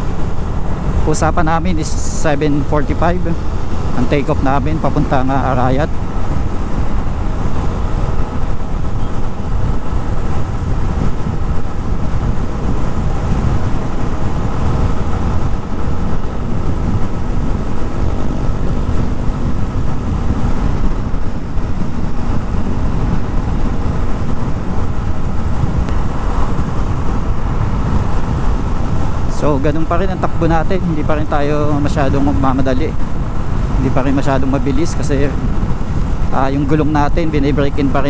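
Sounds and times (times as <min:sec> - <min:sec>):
motorcycle engine cruising: 0:00.0 - 0:38.0
wind on microphone: 0:00.0 - 0:38.0.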